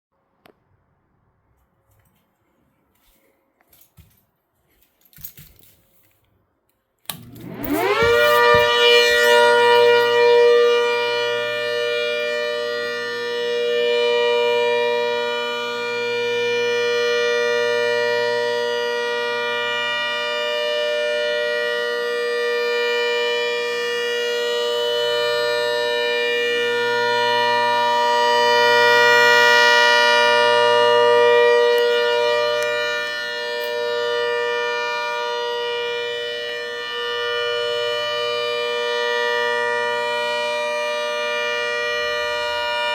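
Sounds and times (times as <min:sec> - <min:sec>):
siren multi-tone chord: 0:07.0 - 0:42.9.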